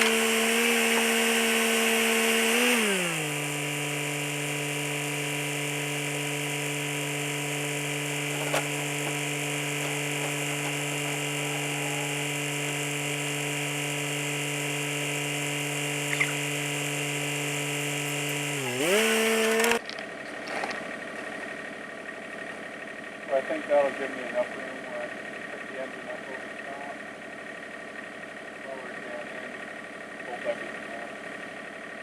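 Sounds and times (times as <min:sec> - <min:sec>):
small electric motor running: 0:00.0 - 0:32.0.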